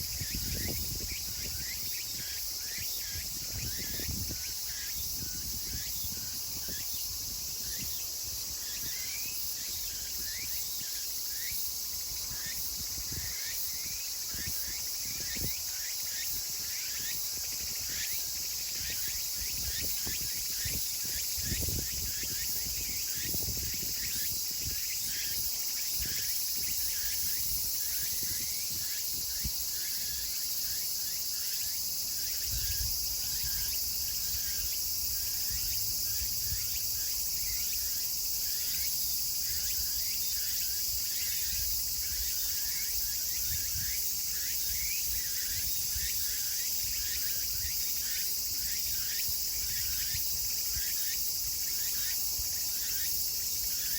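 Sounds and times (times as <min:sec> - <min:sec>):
cicadas buzzing: 0:00.0 - 0:53.9.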